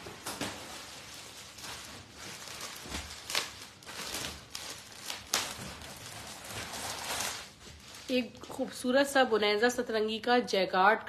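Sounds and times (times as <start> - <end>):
rustling handling noises: 0.0 - 9.4.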